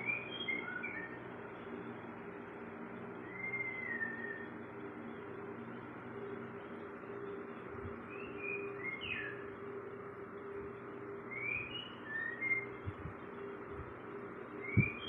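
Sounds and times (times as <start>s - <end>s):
songbird chirping: 0.0s - 2.1s, 2.9s - 15.0s
steady low hum: 0.0s - 15.0s.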